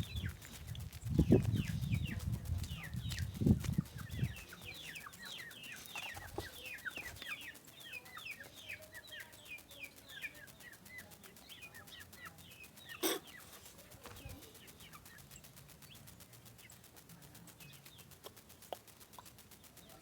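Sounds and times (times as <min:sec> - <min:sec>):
baby chicks peeping: 0:00.0 - 0:20.0.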